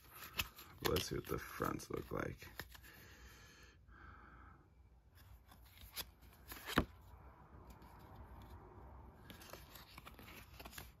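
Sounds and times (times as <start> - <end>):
playing cards rustling: 0.0 - 3.0, 5.2 - 11.0.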